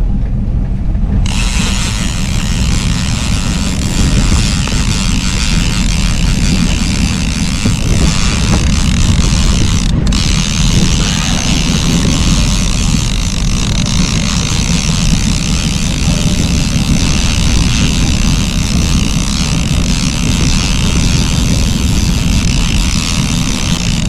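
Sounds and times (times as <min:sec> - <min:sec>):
boat motor droning: 0:00.0 - 0:24.0
wind buffeting microphone: 0:00.0 - 0:24.0.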